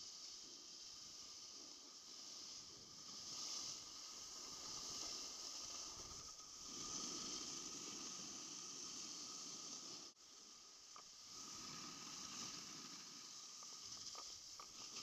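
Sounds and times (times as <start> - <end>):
snowboard sliding on snow: 0.0 - 15.0.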